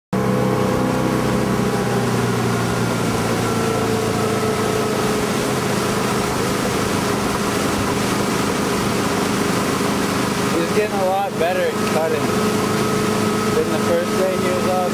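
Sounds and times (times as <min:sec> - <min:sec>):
boat engine drone: 0:00.1 - 0:14.9
rushing water and air: 0:00.1 - 0:14.9.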